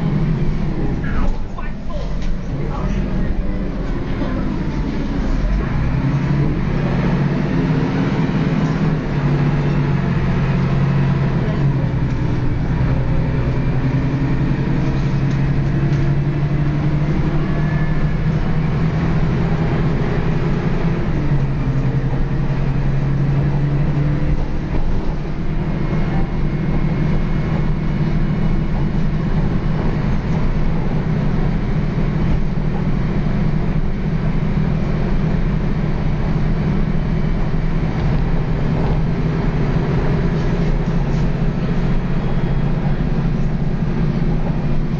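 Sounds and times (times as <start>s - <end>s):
bus diesel engine growling: 0.0s - 44.9s.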